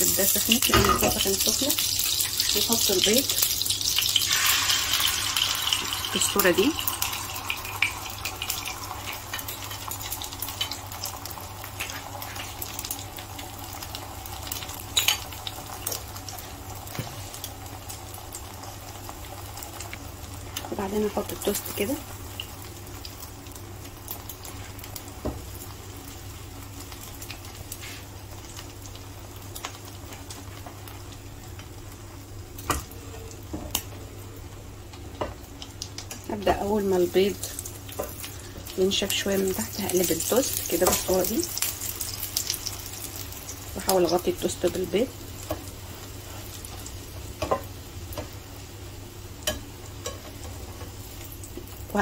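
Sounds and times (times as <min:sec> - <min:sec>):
eggs sizzling in a pan: 0:00.0 - 0:52.0.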